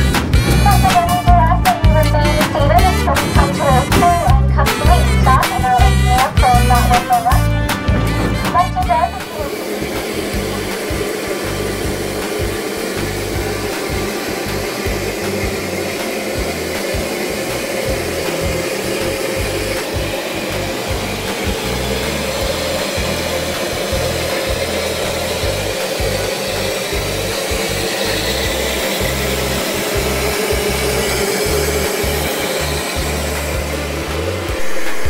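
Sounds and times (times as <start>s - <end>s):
locomotive low rumble: 0.0s - 35.0s
steam hissing: 0.0s - 35.0s.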